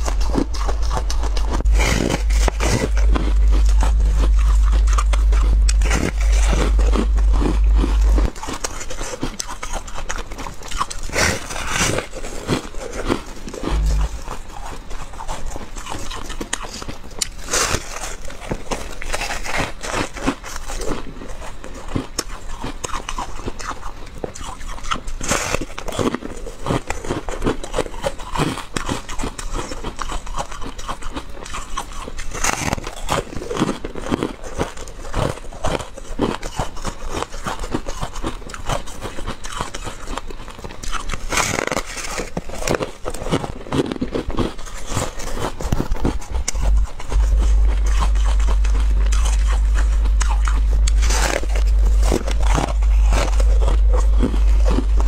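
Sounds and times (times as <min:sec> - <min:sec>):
crunching frozen ice: 0:00.0 - 0:55.0.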